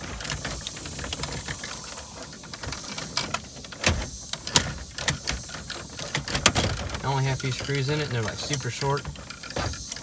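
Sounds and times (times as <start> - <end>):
plastic parts clicking and knocking: 0.0 - 10.0.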